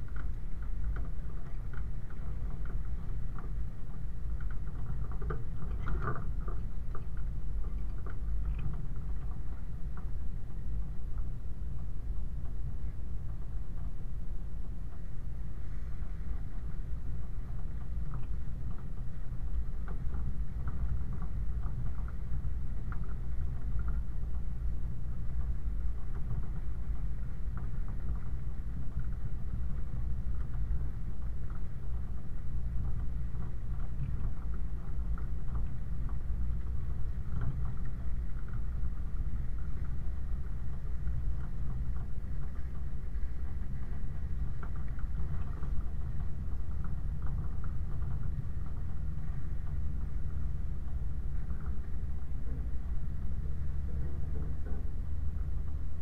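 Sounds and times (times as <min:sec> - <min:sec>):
rattles on gravel track: 0:00.0 - 0:56.0
vehicle engine rumble: 0:00.0 - 0:56.0.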